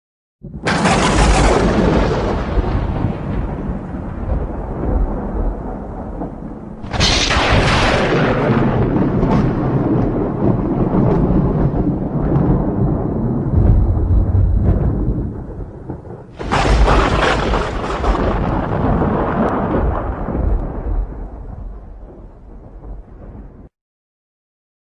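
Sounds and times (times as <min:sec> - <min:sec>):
thunder claps with rumble: 0:00.4 - 0:23.7.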